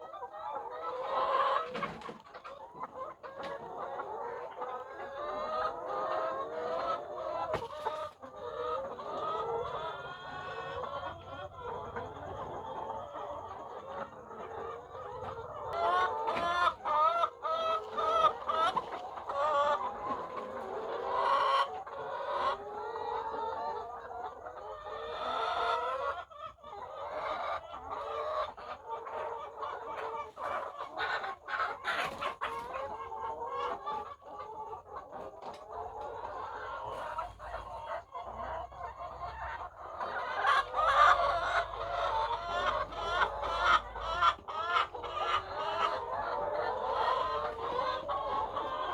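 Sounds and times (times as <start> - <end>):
hens clucking: 0.0 - 48.9.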